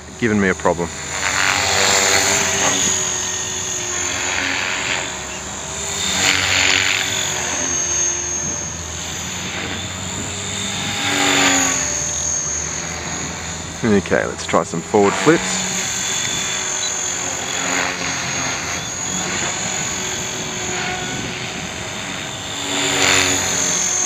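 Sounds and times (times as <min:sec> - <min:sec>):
high motor whine: 0:00.0 - 0:24.0
rotor blade noise: 0:00.0 - 0:24.0.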